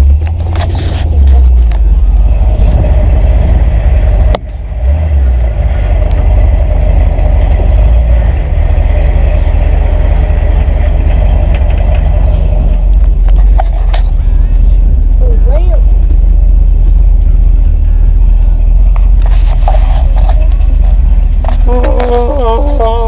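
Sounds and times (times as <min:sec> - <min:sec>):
vehicle engine low rumble: 0:00.0 - 0:23.0.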